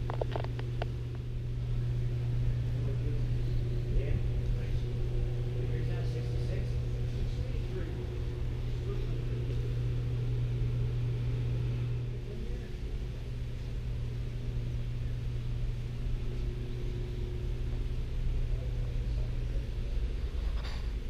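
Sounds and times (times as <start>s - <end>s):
faint high drone: 0.0s - 21.0s
low indoor hum: 0.0s - 21.0s.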